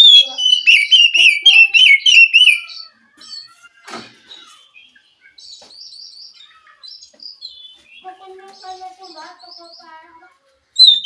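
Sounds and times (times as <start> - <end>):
bird twittering and chirping: 0.0 - 10.2, 10.8 - 11.0.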